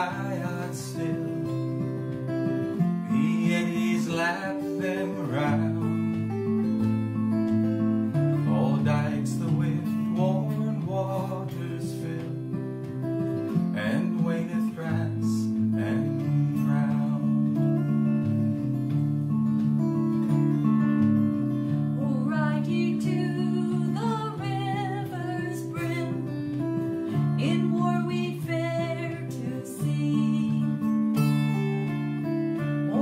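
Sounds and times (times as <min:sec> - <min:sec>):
acoustic guitar: 0:00.0 - 0:33.0
man singing folk song: 0:00.0 - 0:33.0.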